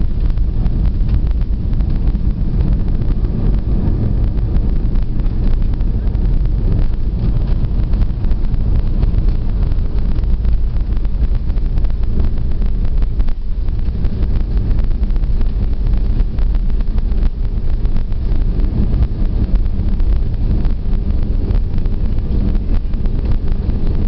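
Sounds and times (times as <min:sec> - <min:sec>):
airplane cabin rumble: 0:00.0 - 0:24.0
small rattles and clicks: 0:00.0 - 0:24.0.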